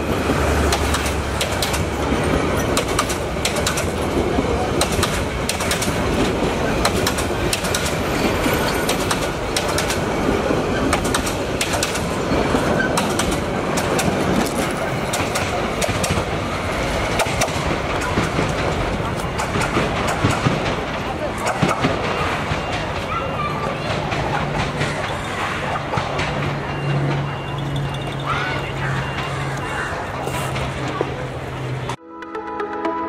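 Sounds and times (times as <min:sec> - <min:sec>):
train wheels rumbling on track: 0:00.0 - 0:32.0
wheels clattering over rail joints: 0:00.0 - 0:32.0.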